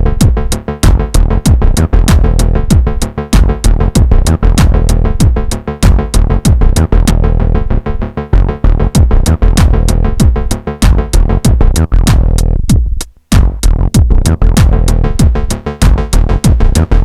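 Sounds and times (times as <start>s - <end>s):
fast hi-hats: 0.0s - 7.3s, 9.0s - 17.0s
four-on-the-floor kick drum: 0.0s - 7.3s, 8.9s - 17.0s
acid synth bassline: 0.0s - 17.0s.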